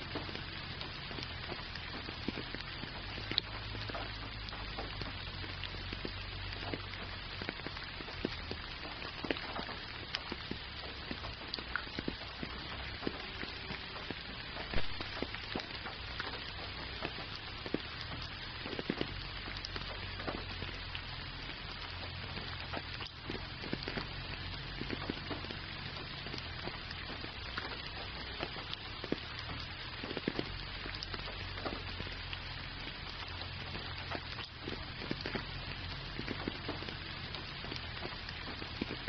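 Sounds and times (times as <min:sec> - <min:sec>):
rain falling: 0:00.0 - 0:39.0
raindrops ticking: 0:00.0 - 0:39.0.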